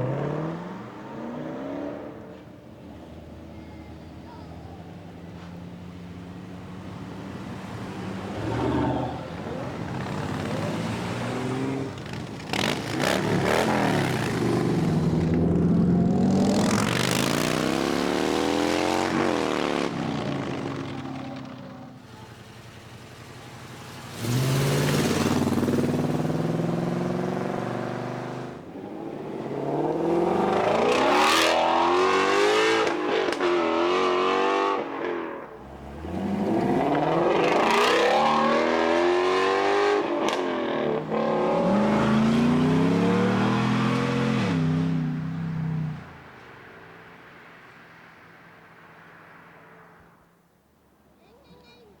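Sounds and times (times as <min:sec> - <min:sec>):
muscle cars accelerating: 0:00.0 - 0:50.2.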